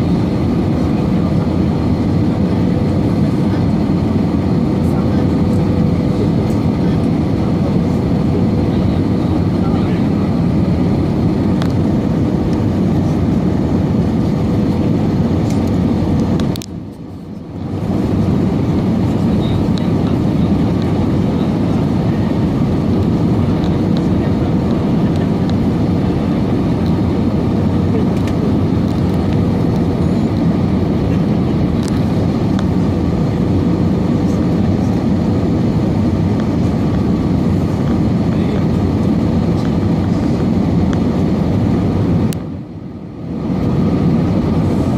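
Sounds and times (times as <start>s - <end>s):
aircraft cabin engine roar: 0.0s - 44.9s.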